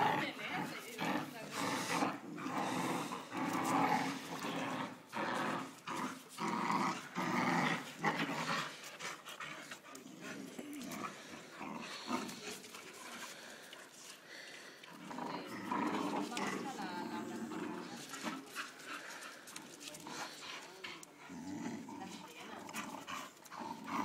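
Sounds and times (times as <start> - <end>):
dogs growling in play: 0.0 - 24.0.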